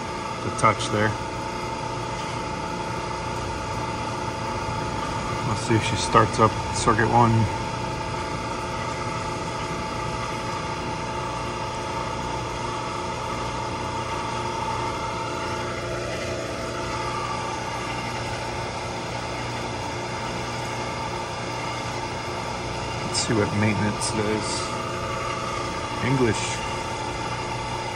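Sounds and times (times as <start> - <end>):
machinery hum: 0.0 - 27.9.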